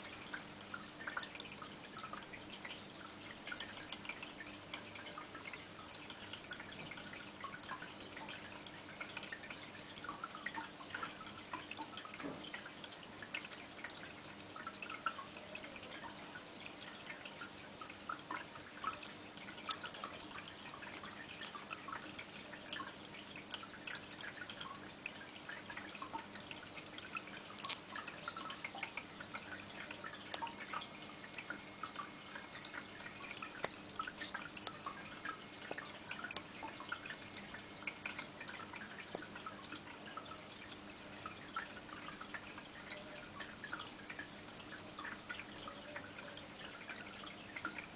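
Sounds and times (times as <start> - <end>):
faint steady hum: 0.0 - 47.9
water dripping and trickling: 0.0 - 47.9.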